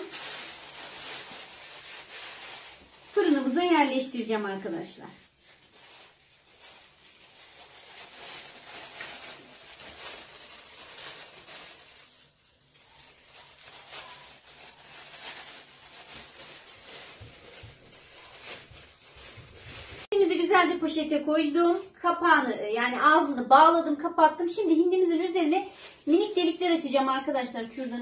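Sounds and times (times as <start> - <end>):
plastic bag crinkling: 0.0 - 20.5, 24.5 - 28.0.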